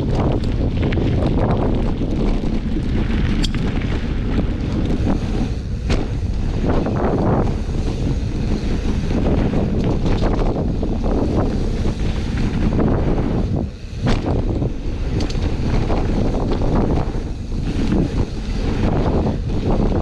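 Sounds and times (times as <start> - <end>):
bike tyres rumbling on trail: 0.0 - 20.0
wind buffeting microphone: 0.0 - 20.0.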